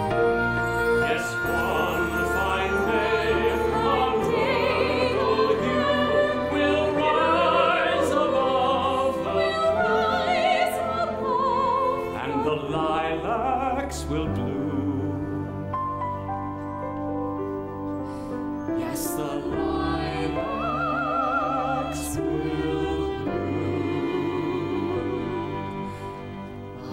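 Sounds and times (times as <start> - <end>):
orchestra playing: 0.0 - 26.9
operatic singing voice: 0.9 - 15.6, 18.8 - 26.9.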